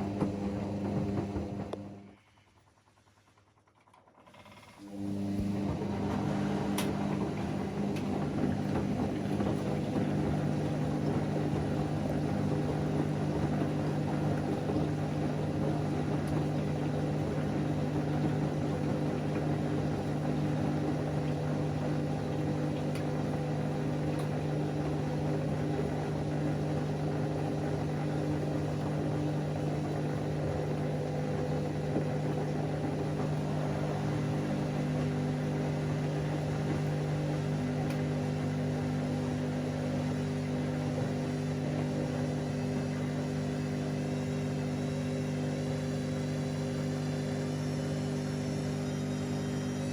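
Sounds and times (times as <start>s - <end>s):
washing machine humming: 0.0s - 49.9s.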